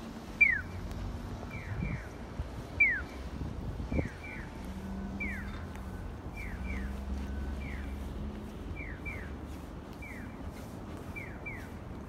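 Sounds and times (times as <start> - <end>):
pedestrian signal electronic chirps: 0.3 - 12.0.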